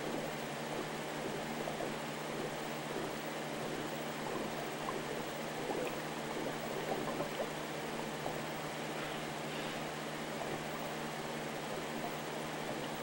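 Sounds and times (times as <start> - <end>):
aquarium water bubbling: 0.0 - 13.0
low hum: 0.0 - 13.0.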